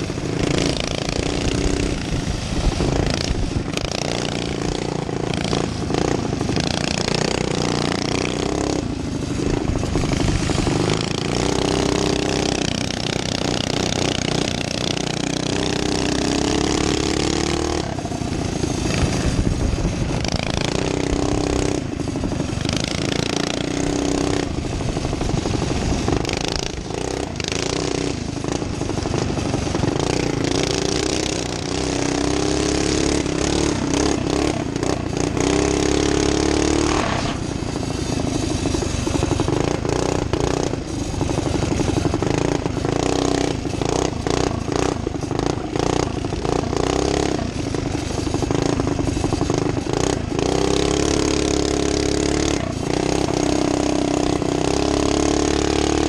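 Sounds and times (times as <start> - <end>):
small engine running hard: 0.0 - 56.0.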